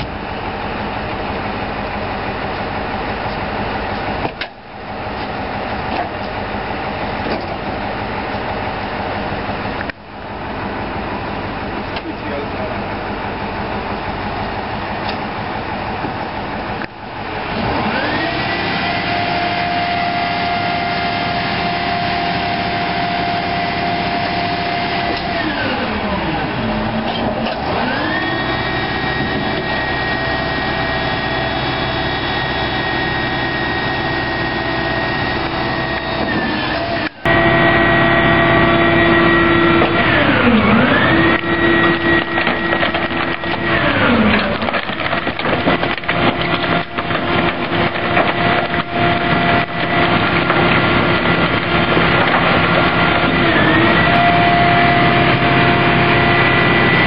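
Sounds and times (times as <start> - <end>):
garbage truck diesel engine revving: 0.0 - 57.0.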